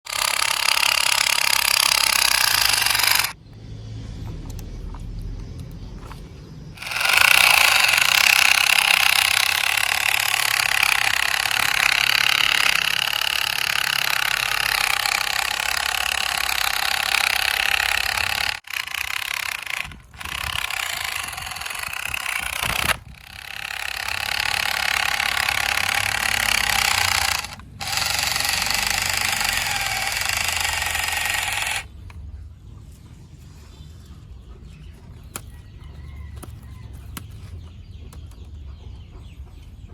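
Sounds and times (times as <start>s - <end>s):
toy truck motor whirring: 0.0s - 3.4s, 6.8s - 32.2s, 35.0s - 38.3s.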